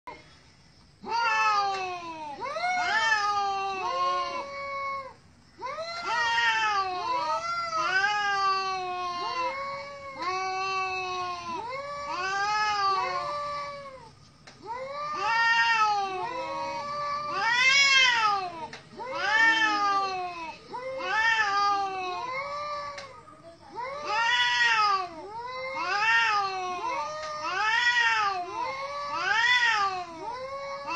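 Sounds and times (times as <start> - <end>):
cats yowling: 1.0 - 30.9.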